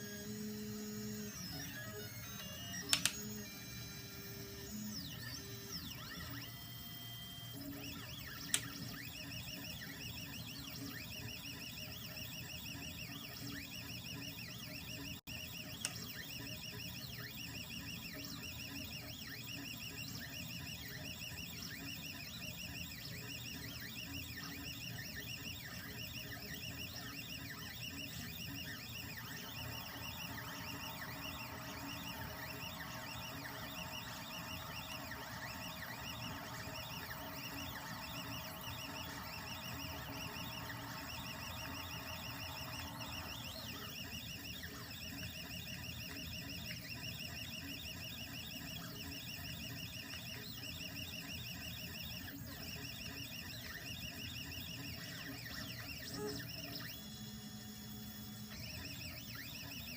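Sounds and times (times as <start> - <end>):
printer steady hum: 0.0 - 59.9
stepper motors chirping: 0.0 - 59.9.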